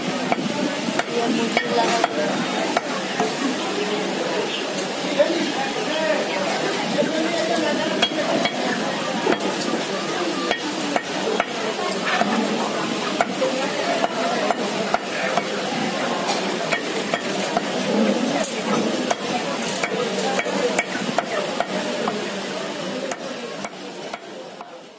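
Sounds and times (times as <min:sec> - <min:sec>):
steady noisy background: 0:00.0 - 0:24.9.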